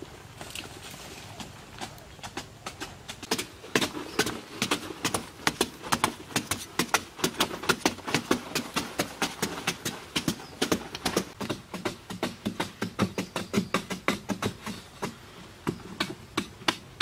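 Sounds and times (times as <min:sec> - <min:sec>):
hand tools chopping hard earth: 0:01.4 - 0:17.0.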